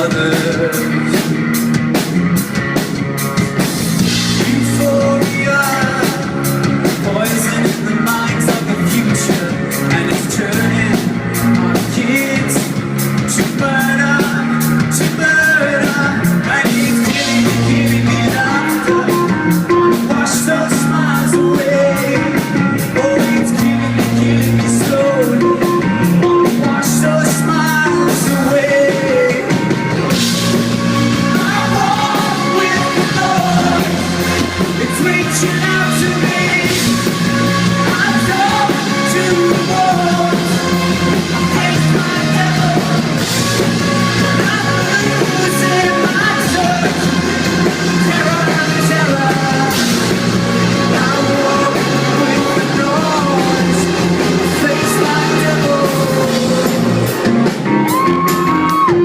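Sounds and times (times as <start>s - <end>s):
live electronic rock band: 0.0s - 59.0s.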